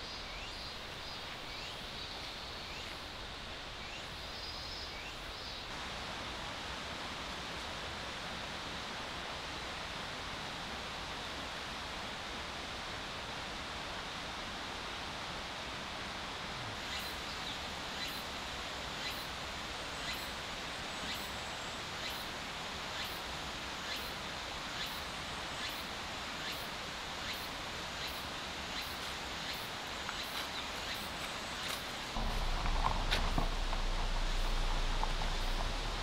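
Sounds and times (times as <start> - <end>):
steady even hiss: 0.0 - 36.0.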